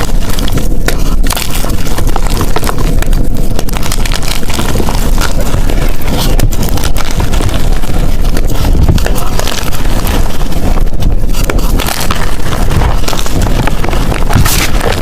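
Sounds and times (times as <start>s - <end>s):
chalk crunching by hand: 0.0s - 15.0s.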